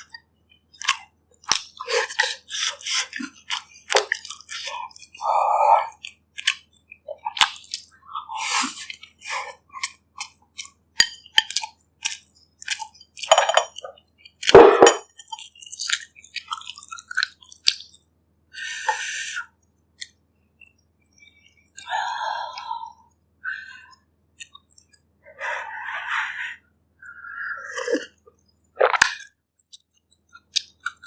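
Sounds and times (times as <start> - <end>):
chewing and wet mouth sounds: 0.0 - 18.1, 19.4 - 23.3, 23.9 - 25.2, 28.4 - 31.0.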